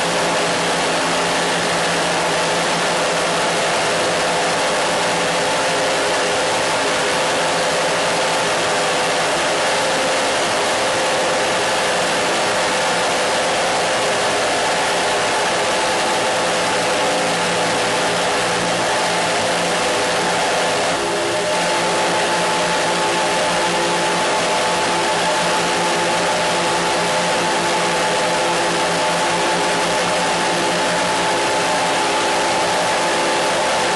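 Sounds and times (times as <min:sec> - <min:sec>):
steady dense noise: 0:00.0 - 0:33.9.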